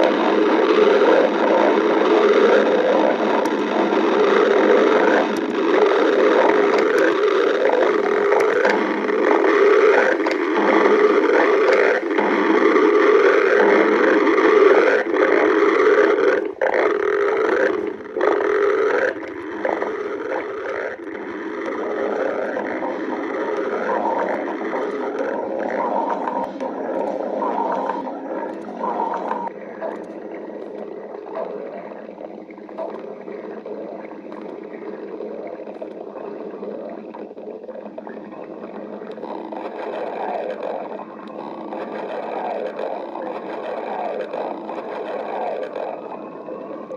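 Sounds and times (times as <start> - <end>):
stomach growling: 0.0 - 46.9.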